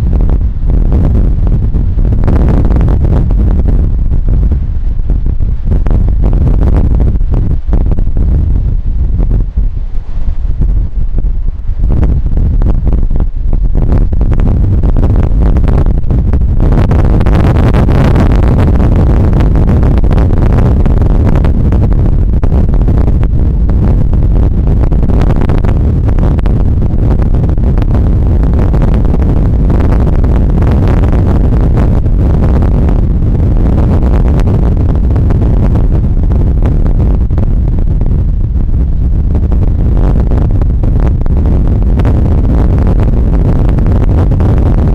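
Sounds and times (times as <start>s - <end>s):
heavy surf: 0.0s - 44.9s
storm wind buffeting microphone: 0.0s - 44.9s.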